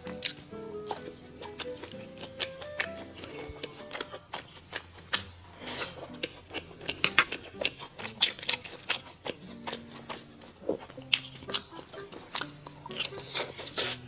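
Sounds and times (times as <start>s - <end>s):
crunching bites: 0.0s - 14.0s
wet chewing: 0.0s - 14.0s.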